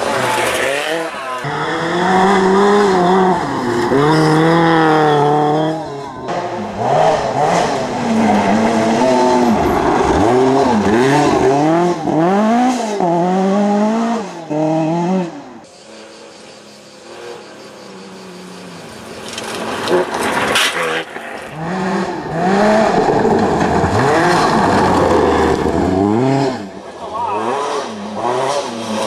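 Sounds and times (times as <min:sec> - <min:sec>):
rally car engine revving: 0:00.0 - 0:16.3, 0:16.9 - 0:29.0.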